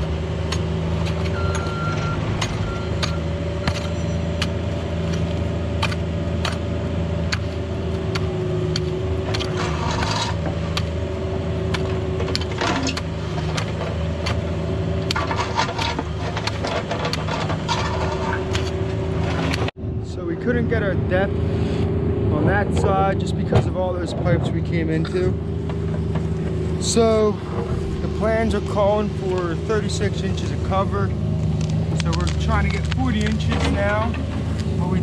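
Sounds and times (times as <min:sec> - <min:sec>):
bucket digging dirt and stones: 0:00.0 - 0:19.7, 0:23.6 - 0:35.0
diesel engine running high revs: 0:00.0 - 0:35.0.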